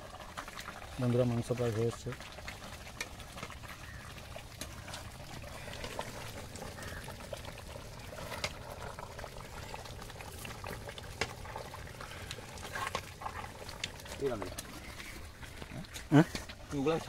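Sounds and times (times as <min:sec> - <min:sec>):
curry bubbling in a pot: 0:00.0 - 0:17.0.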